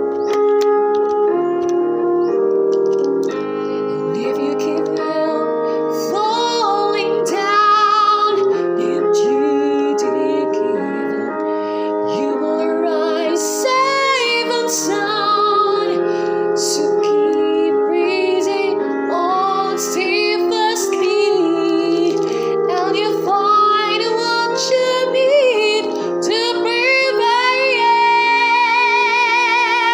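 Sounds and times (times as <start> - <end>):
piano accompaniment: 0.0 - 29.9
woman singing a slow ballad: 4.0 - 29.9.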